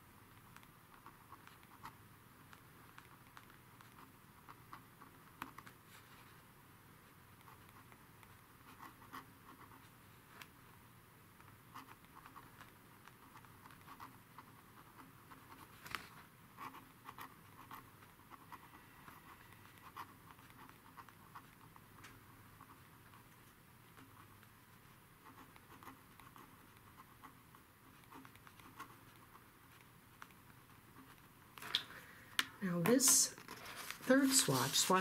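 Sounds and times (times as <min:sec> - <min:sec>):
pen scratching on paper: 0:00.6 - 0:05.7, 0:07.4 - 0:10.5, 0:11.7 - 0:15.8, 0:16.6 - 0:31.3, 0:32.8 - 0:35.0.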